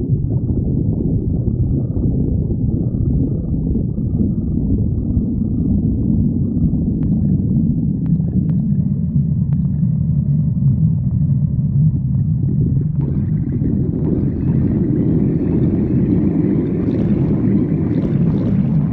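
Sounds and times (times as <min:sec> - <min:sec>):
stomach growling: 0:00.0 - 0:18.9.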